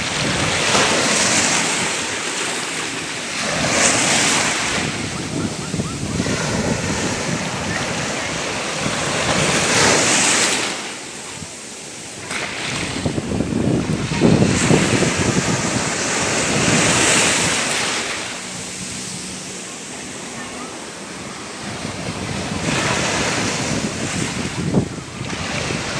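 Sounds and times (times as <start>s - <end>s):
ocean waves breaking on shore: 0.0s - 25.9s.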